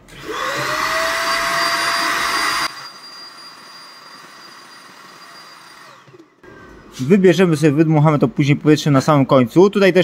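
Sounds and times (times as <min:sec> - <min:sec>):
vacuum cleaner motor whine: 0:00.1 - 0:09.1.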